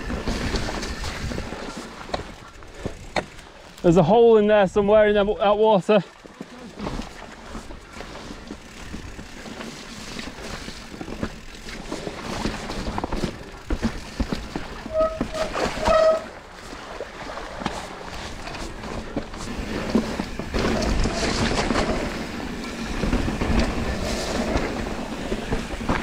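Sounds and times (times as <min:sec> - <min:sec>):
bike rattling and knocking: 0:00.0 - 0:03.8, 0:05.1 - 0:26.0
bike tyre noise on trail: 0:00.0 - 0:26.0.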